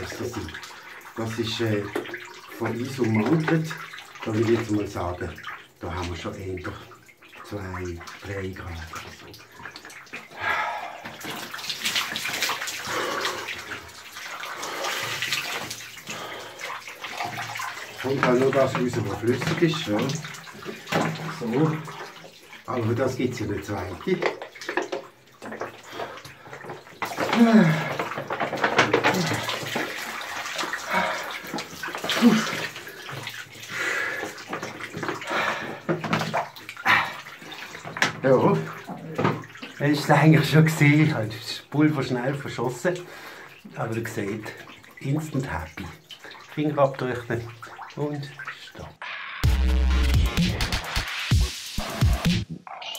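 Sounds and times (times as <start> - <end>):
water splashing on body: 0.0 - 52.9.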